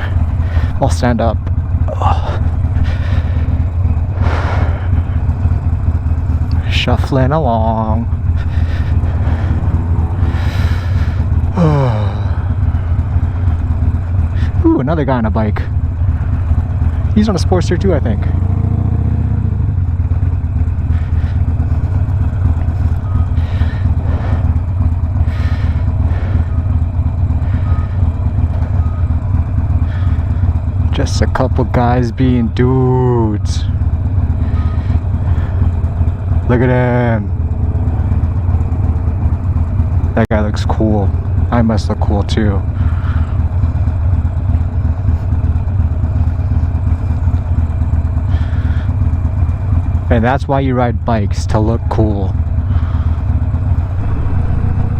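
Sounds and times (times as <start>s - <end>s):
motorcycle engine rumbling: 0.0s - 54.9s.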